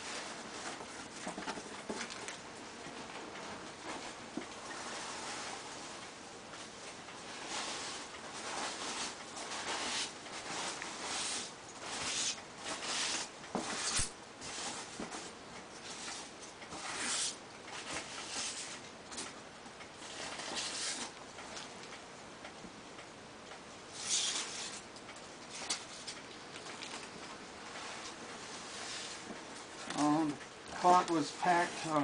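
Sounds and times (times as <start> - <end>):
cardboard and tape rustling: 0.0 - 19.4, 20.0 - 21.7, 24.0 - 32.0.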